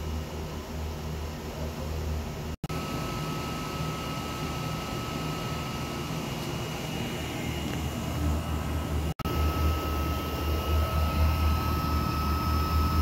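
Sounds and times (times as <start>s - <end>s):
faint high whine: 0.0s - 13.0s
low machine hum: 0.0s - 13.0s.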